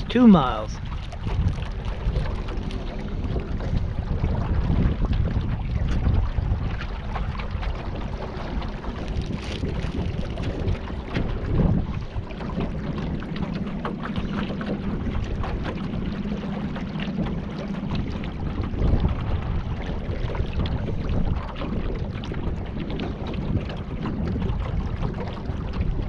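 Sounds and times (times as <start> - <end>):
water splashing around kayak: 0.0 - 26.0
wind buffeting microphone: 0.0 - 26.0.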